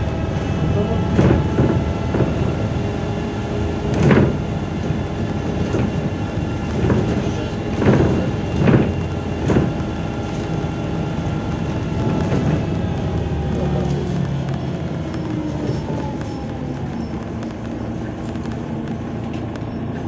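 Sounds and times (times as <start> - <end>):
bus engine and road drone: 0.0 - 20.0
faint whines: 2.0 - 20.0.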